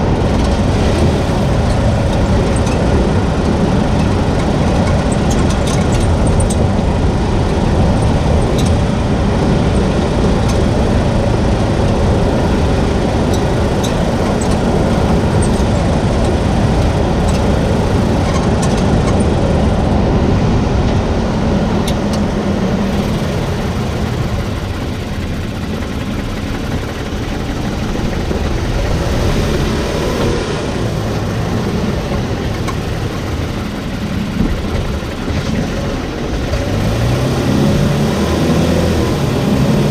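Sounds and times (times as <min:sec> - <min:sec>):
truck road and engine noise: 0:00.0 - 0:39.9.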